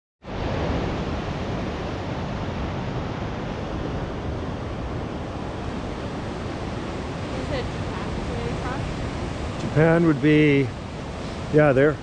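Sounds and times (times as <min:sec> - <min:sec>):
ocean waves breaking: 0:00.2 - 0:12.0.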